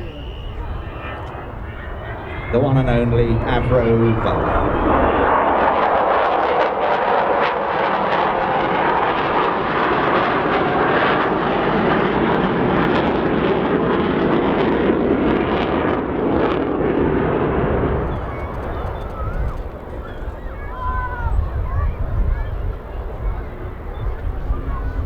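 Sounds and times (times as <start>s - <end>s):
jet aircraft engines in flight: 0.0s - 25.0s.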